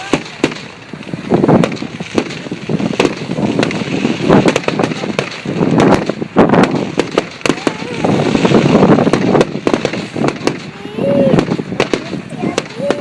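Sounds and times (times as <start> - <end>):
firework shell bursts booming: 0.0 - 13.0
fireworks cracking and crackling: 0.0 - 13.0.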